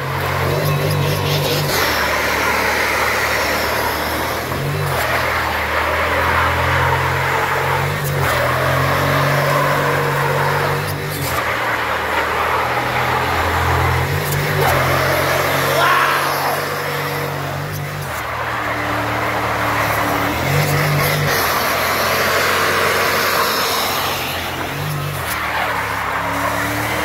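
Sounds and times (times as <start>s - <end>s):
engine revving high: 0.0s - 27.0s
tyres spinning on loose dirt: 0.0s - 27.0s.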